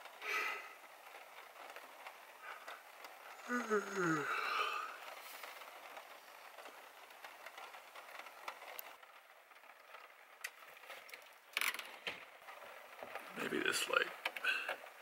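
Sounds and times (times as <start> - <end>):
clicks and rustles of movement: 0.0 - 15.0
rain patter on a roof: 0.0 - 15.0.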